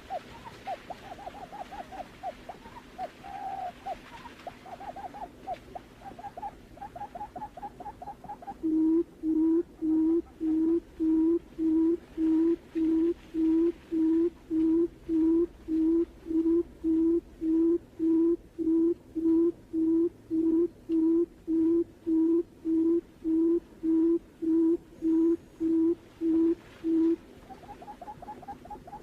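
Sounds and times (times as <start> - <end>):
low hollow bird hooting: 0.0 - 29.0.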